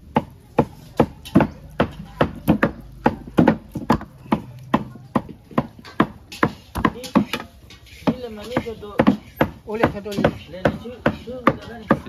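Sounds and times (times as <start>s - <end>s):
knife chopping meat on cutting board: 0.1s - 12.0s.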